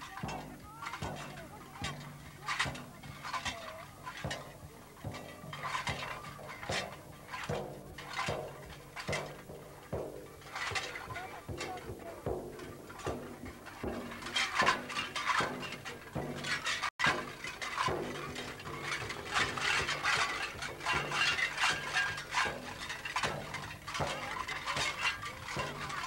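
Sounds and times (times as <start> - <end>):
frame drum beaten: 0.0 - 26.0.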